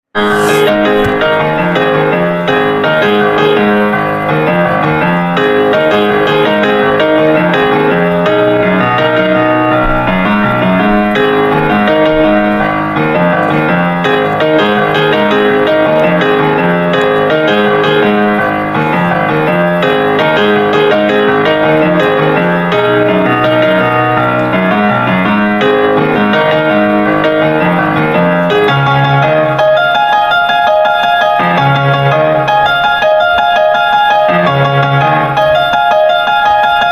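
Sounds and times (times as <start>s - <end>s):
busy piano music: 0.1s - 36.9s.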